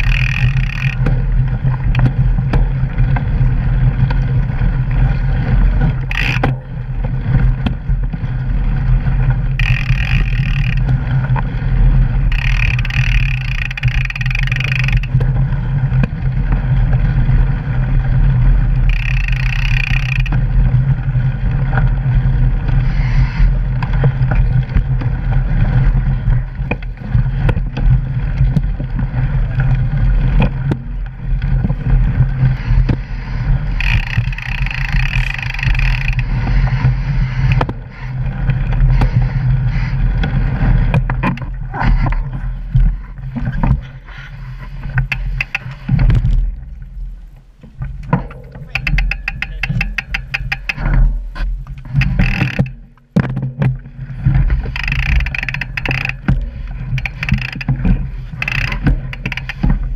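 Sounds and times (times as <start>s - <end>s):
bike knocks and rattles: 0.0s - 59.9s
rear hub freewheel buzz: 0.0s - 59.9s
tyres rumbling on gravel: 0.0s - 59.9s
wind on microphone: 0.0s - 59.9s.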